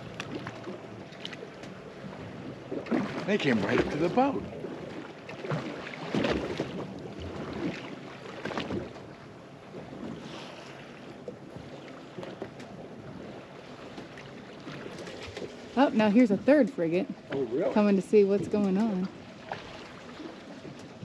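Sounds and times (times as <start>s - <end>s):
waves slapping boat hull: 0.0s - 21.0s.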